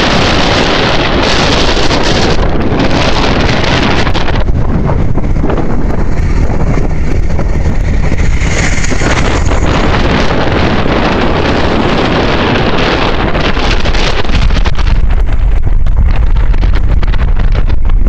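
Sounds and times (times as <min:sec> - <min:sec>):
vehicle and road rumble: 0:00.0 - 0:18.0
wind buffeting microphone: 0:00.0 - 0:18.0.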